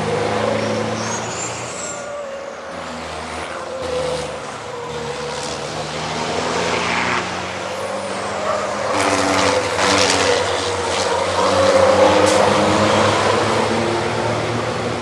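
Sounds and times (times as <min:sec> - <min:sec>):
diesel truck engines passing: 0:00.0 - 0:15.0.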